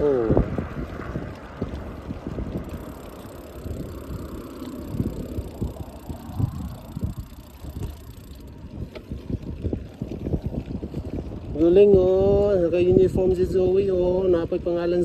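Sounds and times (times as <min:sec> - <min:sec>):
bike rolling on road: 0:00.0 - 0:15.0
wind on microphone: 0:00.0 - 0:15.0.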